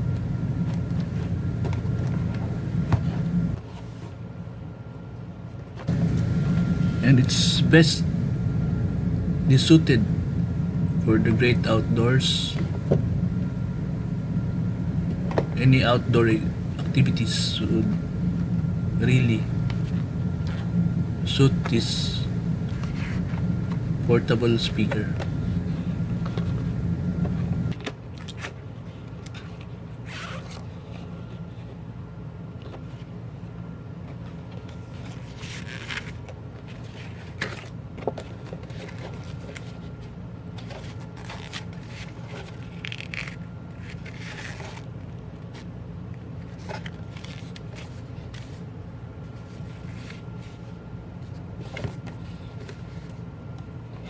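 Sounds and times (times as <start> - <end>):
steady low hum: 0.0 - 27.8, 28.6 - 54.0.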